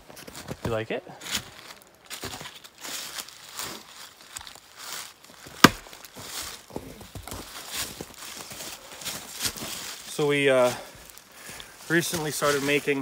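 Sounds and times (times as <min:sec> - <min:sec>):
footsteps on frozen leaves and snow: 0:01.2 - 0:13.0.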